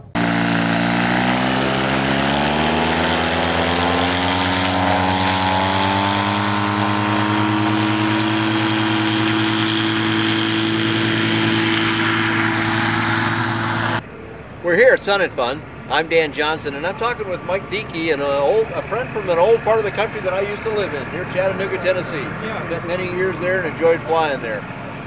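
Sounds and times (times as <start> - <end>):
ultralight engine and propeller: 0.0 - 14.1, 17.0 - 25.0.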